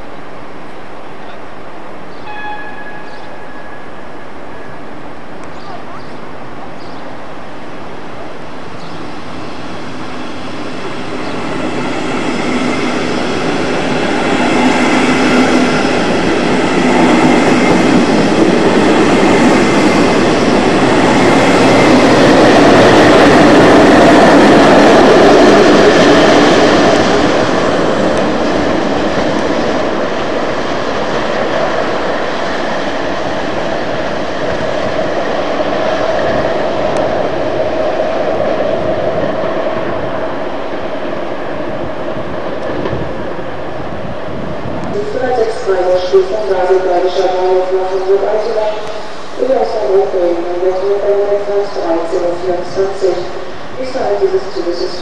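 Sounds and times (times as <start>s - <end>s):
train wheel and rail rumble: 0.0s - 55.0s.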